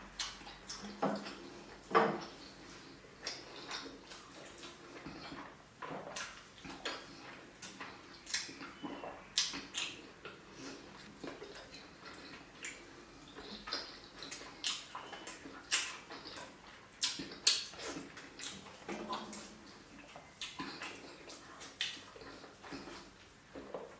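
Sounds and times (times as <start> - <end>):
wet chewing and slurping: 0.0 - 23.9.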